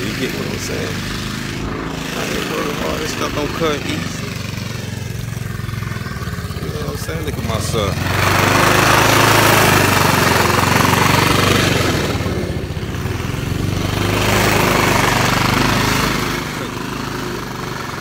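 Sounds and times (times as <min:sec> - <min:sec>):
petrol lawn mower cutting grass: 0:00.0 - 0:18.0.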